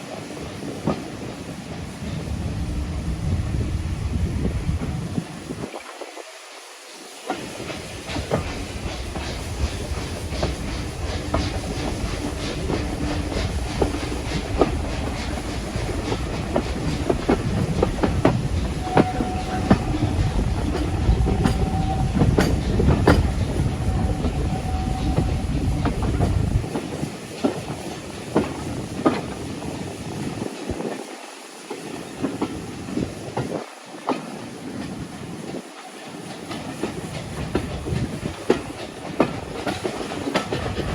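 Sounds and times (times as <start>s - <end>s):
train wheels clicking over rail joints: 0.0s - 3.6s, 7.2s - 40.9s
train rattle: 0.0s - 5.7s, 6.7s - 40.9s
deep train rumble: 0.0s - 5.8s, 7.2s - 40.9s.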